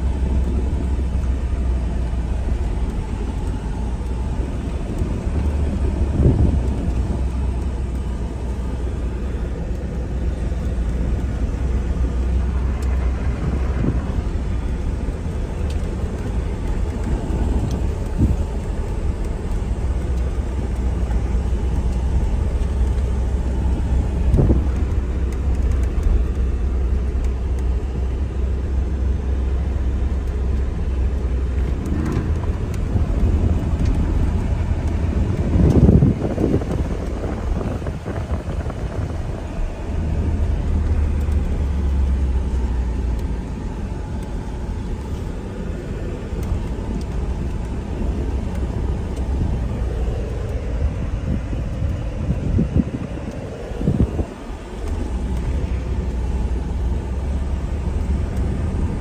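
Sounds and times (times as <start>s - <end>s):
engine and tyres rumbling: 0.0s - 59.0s.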